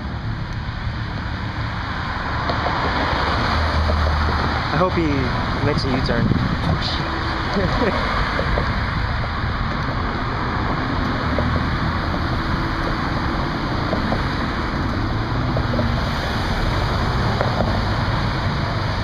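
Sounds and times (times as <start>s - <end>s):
even rushing noise: 0.0s - 19.0s
traffic rumble: 0.0s - 19.0s.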